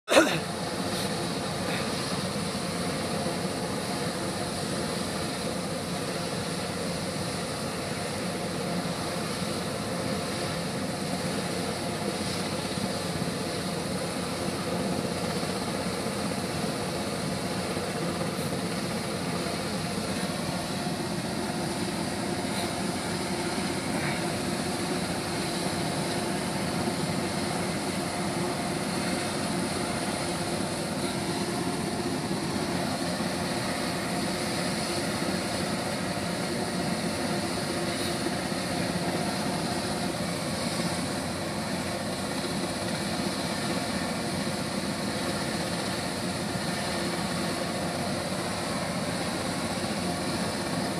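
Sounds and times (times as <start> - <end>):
helicopter engine and rotor: 0.3 - 50.9.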